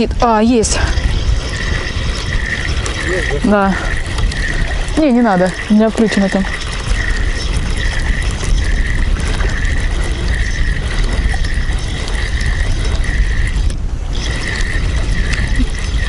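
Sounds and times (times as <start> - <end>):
fishing reel whirring and clicking: 0.0 - 16.0.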